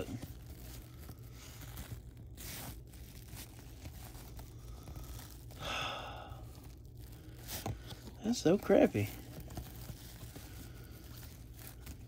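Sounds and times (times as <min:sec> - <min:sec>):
cardboard cards rustling: 0:00.0 - 0:05.7, 0:06.3 - 0:12.0.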